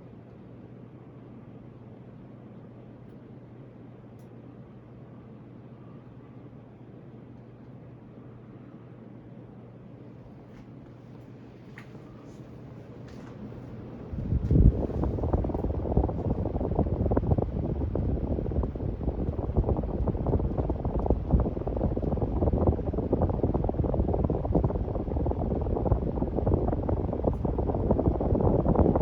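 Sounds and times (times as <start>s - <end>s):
ceiling fan airflow rumble: 0.0s - 29.0s.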